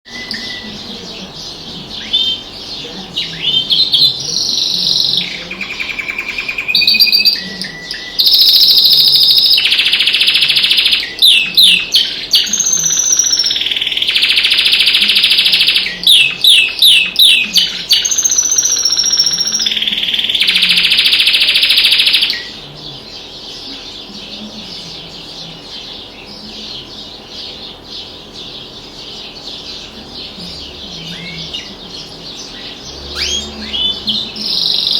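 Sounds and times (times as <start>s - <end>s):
canary singing trills: 0.0s - 34.9s
faint bird chirping: 0.0s - 34.9s.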